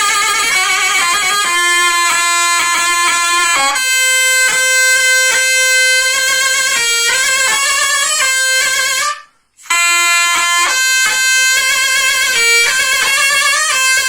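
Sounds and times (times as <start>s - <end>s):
davul drum beats: 0.0s - 14.0s
zurna folk dance melody: 0.0s - 14.0s.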